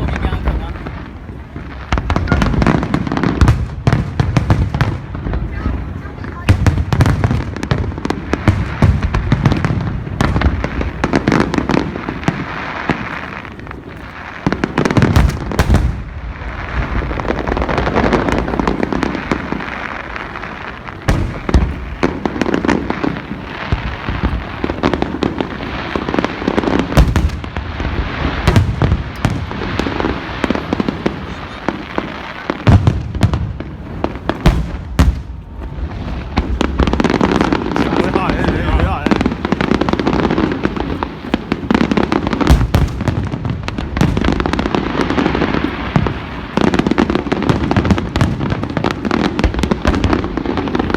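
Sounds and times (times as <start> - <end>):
firework crackling: 0.0 - 50.9
firework shells bursting: 6.6 - 50.9.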